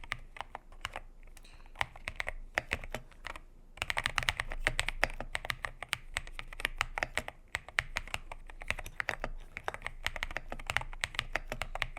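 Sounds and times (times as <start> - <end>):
mechanical keyboard typing: 0.0 - 1.1, 1.7 - 11.9.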